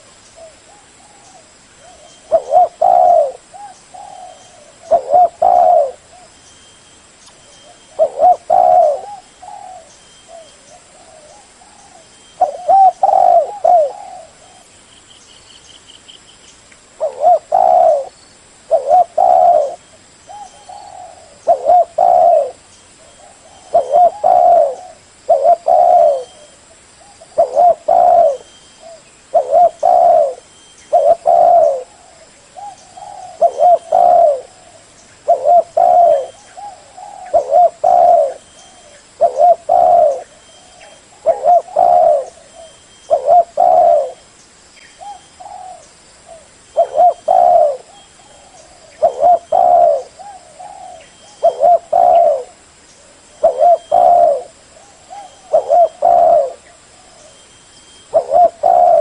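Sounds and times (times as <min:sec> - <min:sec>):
dove cooing: 0:00.0 - 0:06.3, 0:07.6 - 0:14.7, 0:17.0 - 0:18.1, 0:18.7 - 0:44.3, 0:45.0 - 0:59.0
small bird chirping: 0:00.2 - 0:59.0.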